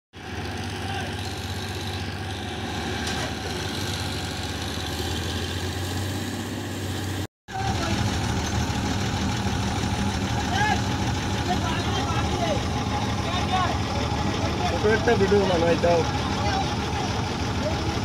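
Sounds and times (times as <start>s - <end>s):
diesel engine idling: 0.2s - 18.0s.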